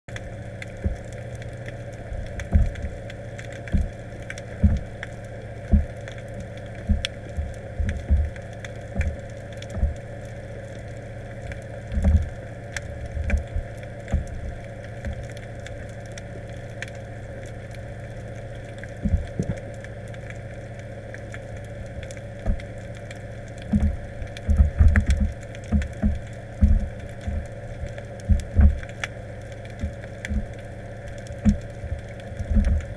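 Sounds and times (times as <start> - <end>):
faint clicks: 0.1 - 32.9
muffled underwater hum: 0.1 - 32.9.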